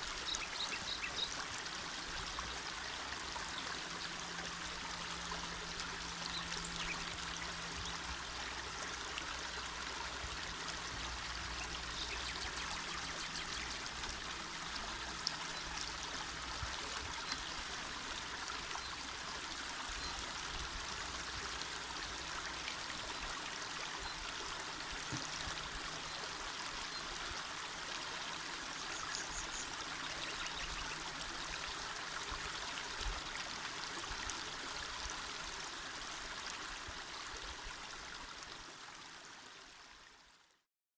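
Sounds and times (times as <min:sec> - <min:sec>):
river flowing: 0:00.0 - 0:40.2.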